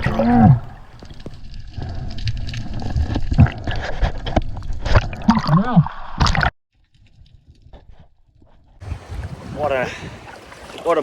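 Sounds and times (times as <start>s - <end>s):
water gurgling and splashing: 0.0s - 11.0s.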